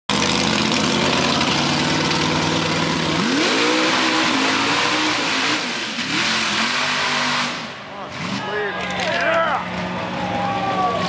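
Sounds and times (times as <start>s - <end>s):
truck engine revving: 0.1s - 11.0s.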